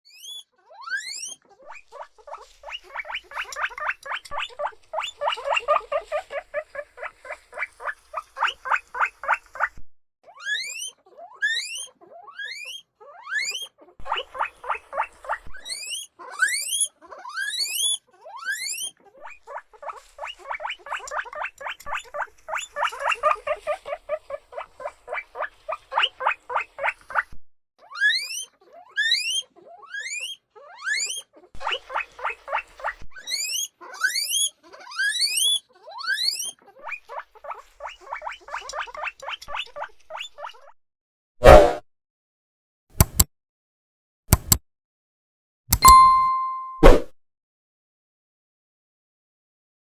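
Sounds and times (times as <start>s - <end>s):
guinea pig wheeking whistles: 0.0s - 9.7s, 10.3s - 27.2s, 27.8s - 40.6s, 45.8s - 47.0s
guinea pig fast squeaks: 0.0s - 40.8s, 45.8s - 46.6s.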